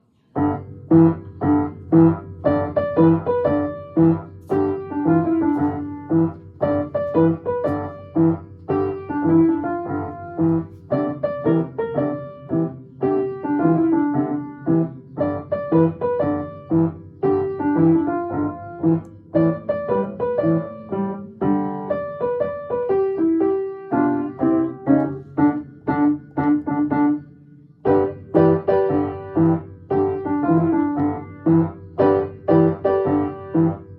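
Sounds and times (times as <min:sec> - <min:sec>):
blues piano playing: 0:00.0 - 0:33.9.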